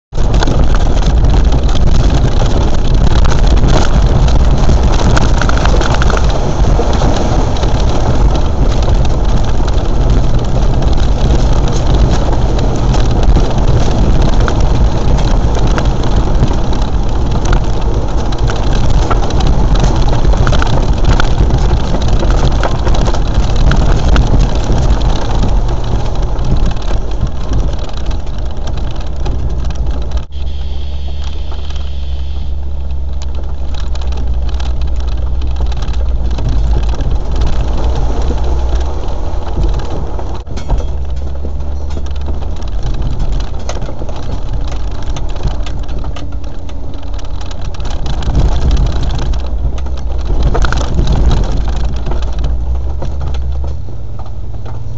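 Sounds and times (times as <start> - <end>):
small knocks and rattles: 0.1 - 30.3, 32.7 - 54.9
vehicle engine running: 0.1 - 54.9.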